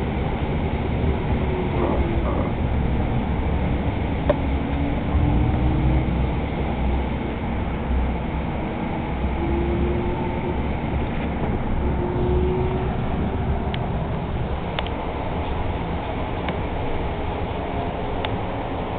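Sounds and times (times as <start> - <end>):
rumble of wheels on rails: 0.0 - 18.9.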